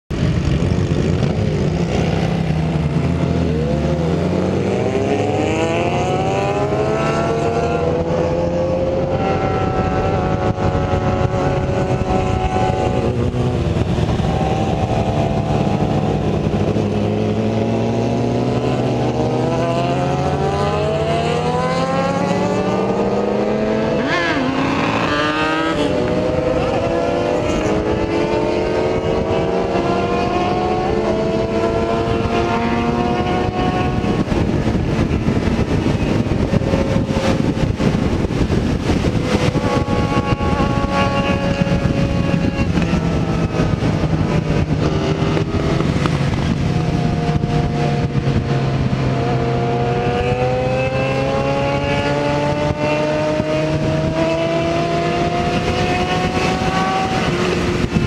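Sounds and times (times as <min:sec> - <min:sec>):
motorcycle engine accelerating: 0:00.1 - 0:58.0.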